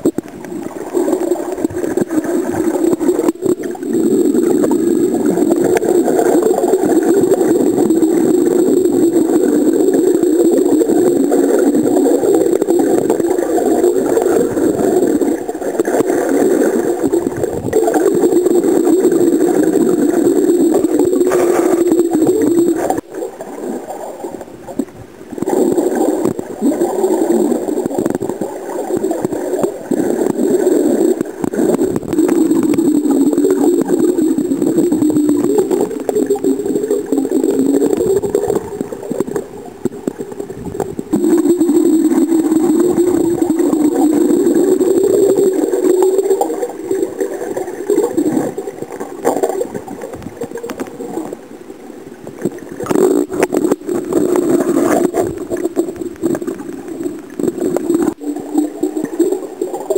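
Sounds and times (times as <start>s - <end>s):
water gurgling: 0.0s - 59.9s
wavering underwater drone: 0.0s - 59.9s.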